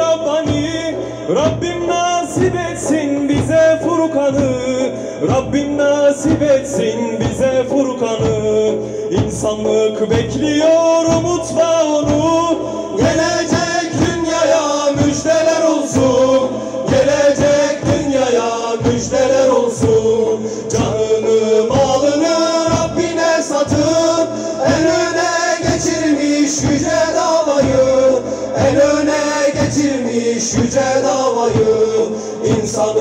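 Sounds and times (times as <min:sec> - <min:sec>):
frame drum beat: 0:00.0 - 0:33.0
male group singing a hymn: 0:00.0 - 0:33.0.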